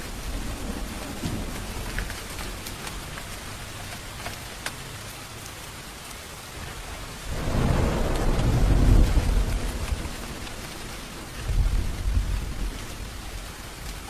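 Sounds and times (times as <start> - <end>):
low rumble of thunder: 0.0 - 3.8, 6.6 - 14.0
raindrops ticking: 0.0 - 14.0
steady rain: 0.0 - 14.0.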